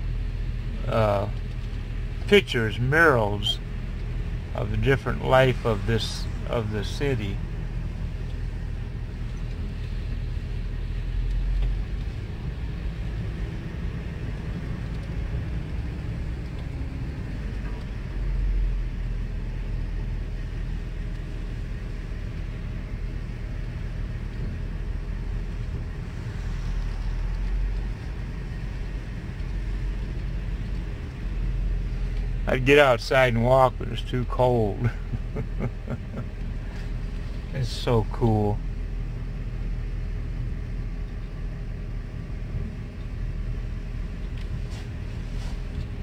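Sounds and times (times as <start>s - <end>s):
engine and tyre rumble in car: 0.0s - 46.0s.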